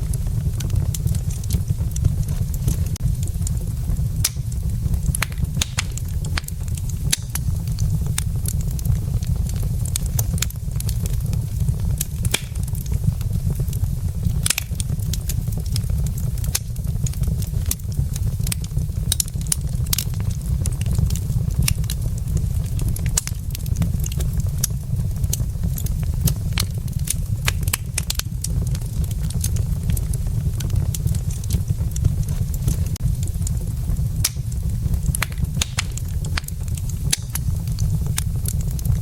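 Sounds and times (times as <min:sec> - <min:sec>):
wood logs crackling in fireplace: 0:00.0 - 0:39.0.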